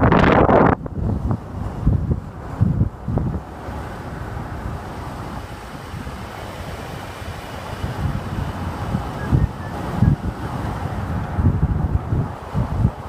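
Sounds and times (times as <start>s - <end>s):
car road and wind noise: 0.0s - 13.0s
wind buffeting microphone: 0.0s - 13.0s.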